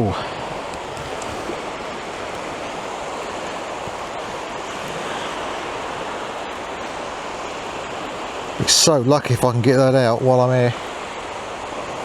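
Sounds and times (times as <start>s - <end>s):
sea surf breaking: 0.0s - 12.0s.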